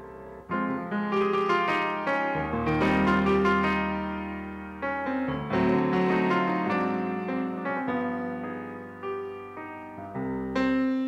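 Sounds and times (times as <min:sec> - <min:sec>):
piano playing slow jazz ballad: 0:00.0 - 0:11.0.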